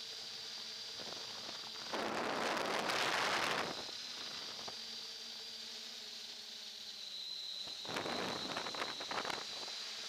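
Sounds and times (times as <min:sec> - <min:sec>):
drone motors humming: 0:00.0 - 0:10.0.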